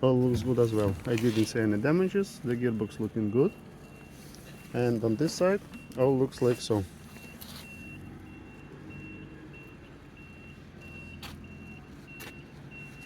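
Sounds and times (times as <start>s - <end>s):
idling engine hum: 0.0s - 13.0s
reversing alarm beeping: 0.4s - 13.0s.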